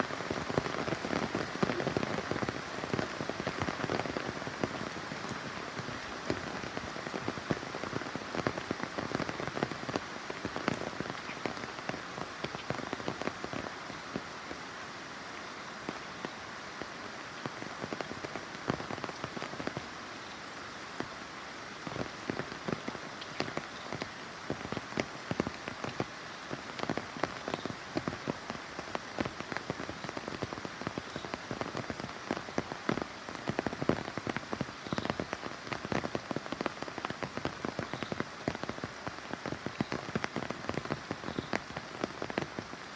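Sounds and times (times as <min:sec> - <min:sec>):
rain hissing: 0:00.0 - 0:42.9
raindrops striking close by: 0:00.0 - 0:42.9.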